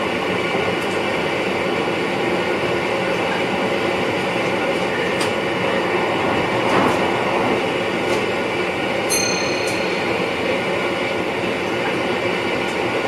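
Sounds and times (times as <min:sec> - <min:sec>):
train rolling noise in cab: 0:00.0 - 0:13.0.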